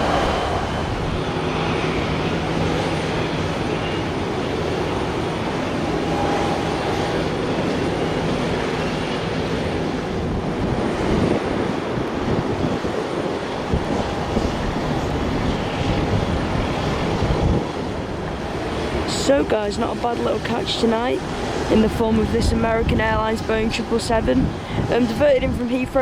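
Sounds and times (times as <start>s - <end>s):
jet engines rushing: 0.0s - 26.0s.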